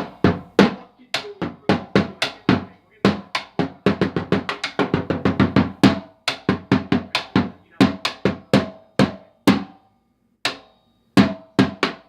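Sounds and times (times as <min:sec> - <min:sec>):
drum strikes: 0:00.0 - 0:09.9, 0:10.5 - 0:12.0.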